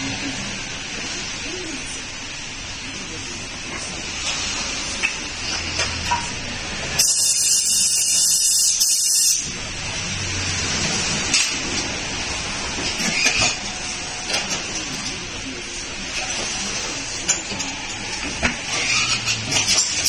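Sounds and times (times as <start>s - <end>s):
workshop noise: 0.0s - 20.0s.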